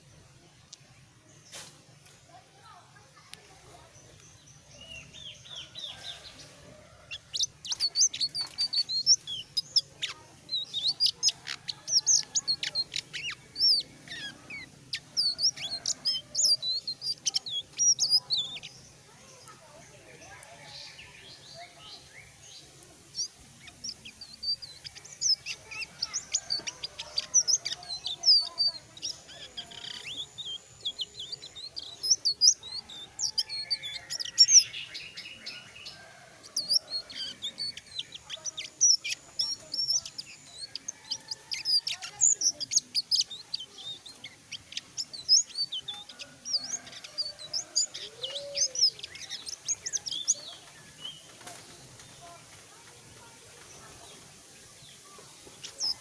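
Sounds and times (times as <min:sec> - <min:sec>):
caged bird chirping and twittering: 0:00.0 - 0:56.0.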